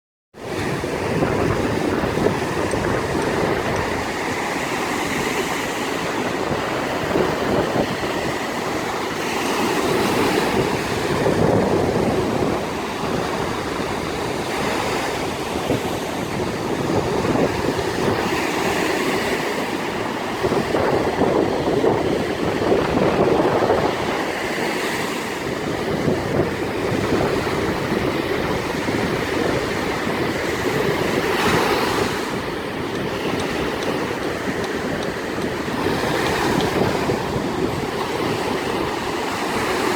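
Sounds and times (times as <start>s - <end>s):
sea waves breaking: 0.4s - 39.9s.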